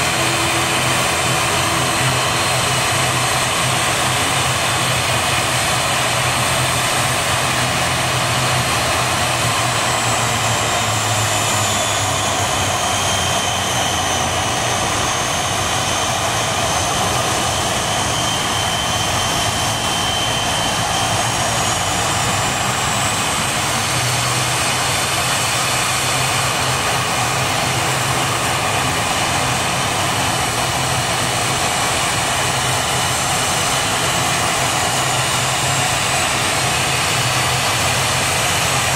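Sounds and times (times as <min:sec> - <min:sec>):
airplane engines roaring: 0:00.0 - 0:38.9
high engine whine: 0:00.0 - 0:38.9.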